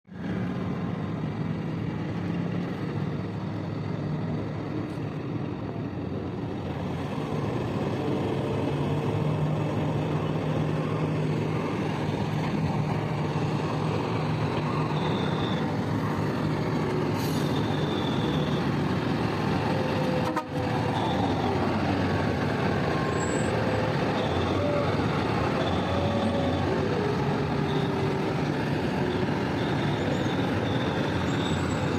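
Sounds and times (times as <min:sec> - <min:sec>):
heavy diesel engines droning: 0:00.1 - 0:31.9.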